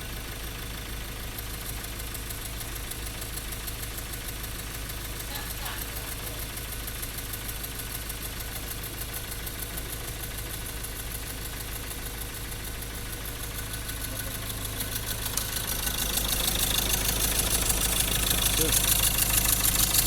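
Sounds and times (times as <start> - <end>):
diesel engine misfiring: 0.0 - 20.0.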